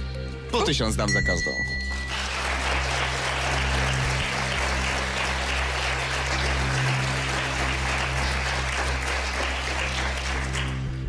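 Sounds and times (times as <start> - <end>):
low music drone: 1.7 - 11.0
audience applauding: 1.8 - 11.0.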